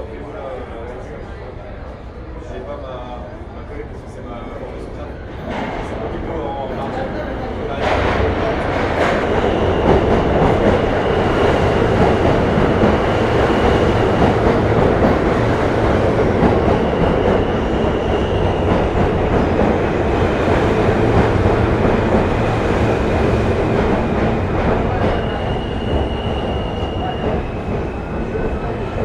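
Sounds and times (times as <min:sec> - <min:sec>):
train wheels rumbling on rail: 0:03.9 - 0:29.0.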